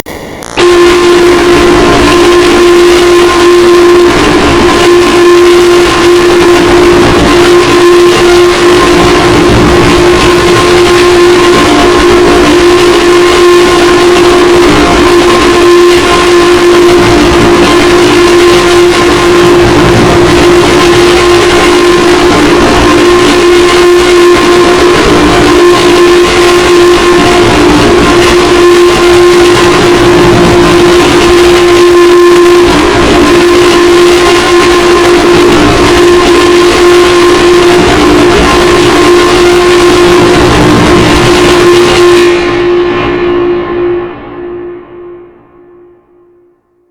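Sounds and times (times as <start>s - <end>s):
distorted steady alarm tone: 0.0s - 46.9s.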